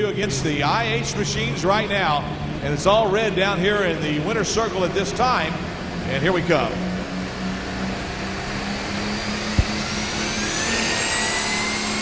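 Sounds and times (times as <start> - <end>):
tractor engine running: 0.0 - 11.4
high whine rising in pitch: 0.0 - 12.0.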